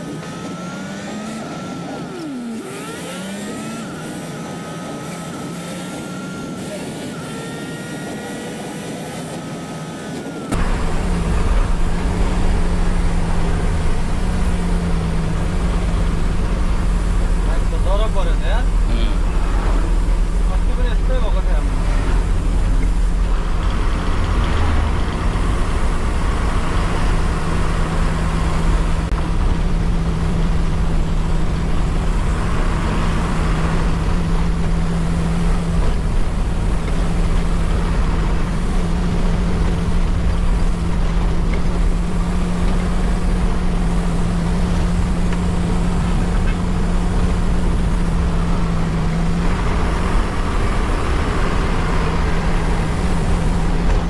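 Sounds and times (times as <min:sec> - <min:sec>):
bus engine running: 0:00.0 - 0:54.0
tyre and road noise: 0:00.0 - 0:54.0.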